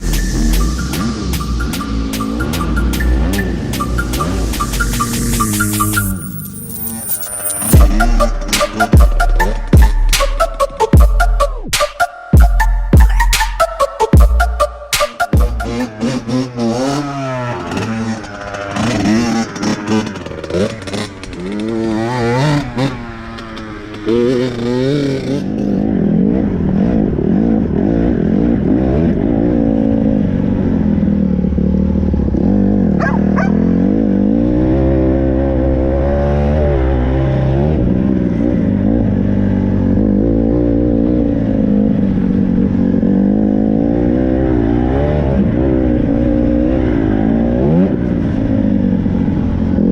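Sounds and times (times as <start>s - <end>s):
dirt bike engine revving: 0.0s - 11.0s, 15.3s - 49.9s.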